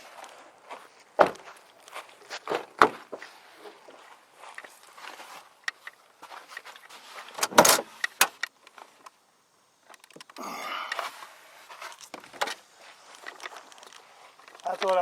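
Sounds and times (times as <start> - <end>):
handling clicks and rustling: 1.0 - 9.2, 9.8 - 15.0.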